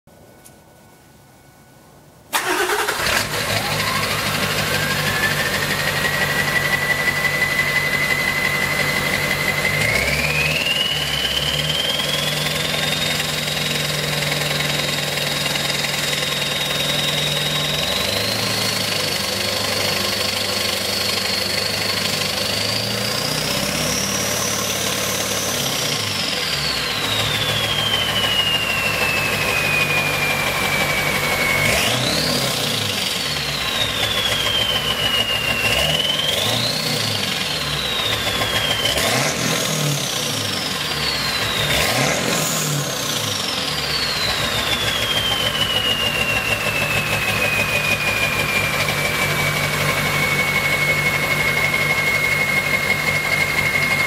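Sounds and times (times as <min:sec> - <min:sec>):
diesel engine revving: 0:02.4 - 0:54.0
turbo whistle: 0:02.4 - 0:54.0.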